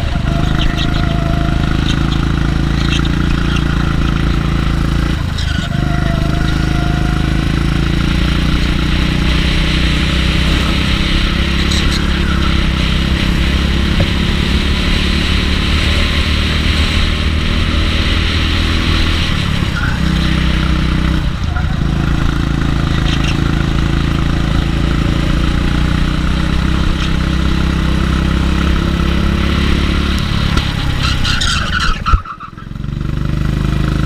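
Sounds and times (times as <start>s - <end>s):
go-kart engine running: 0.0s - 34.0s.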